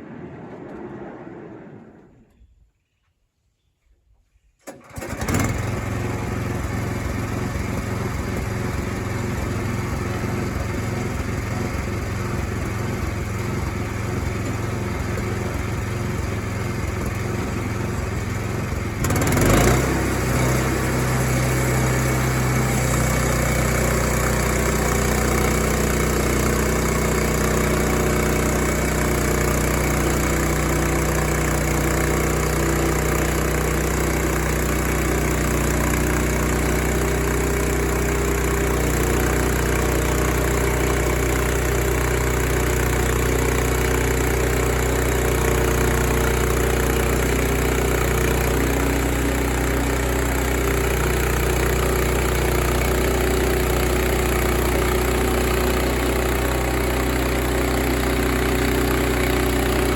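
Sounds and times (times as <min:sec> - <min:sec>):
small engine running: 0:04.7 - 0:59.9
engine knock: 0:05.1 - 0:59.9.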